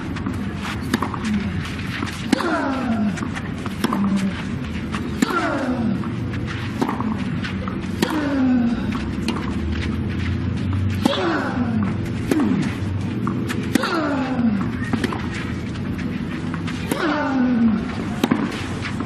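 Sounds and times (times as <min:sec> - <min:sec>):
racket striking ball: 0:00.2 - 0:19.0.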